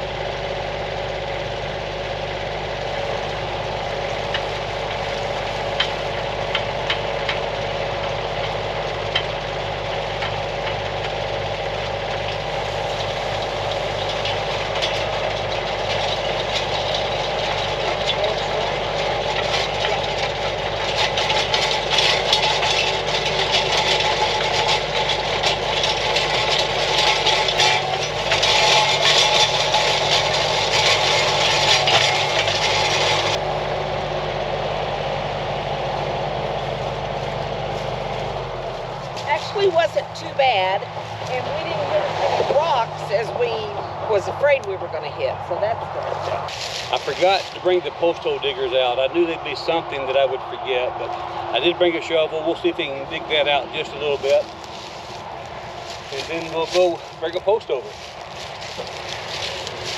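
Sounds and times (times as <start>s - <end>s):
auger grinding into ground: 0.0s - 44.6s, 45.6s - 59.9s
tractor diesel engine running: 0.0s - 59.9s.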